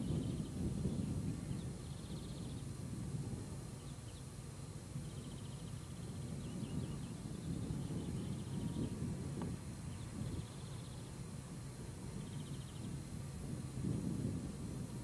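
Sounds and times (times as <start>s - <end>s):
low rumbling outdoor background: 0.0s - 15.0s
small bird chirping trills: 0.0s - 15.0s.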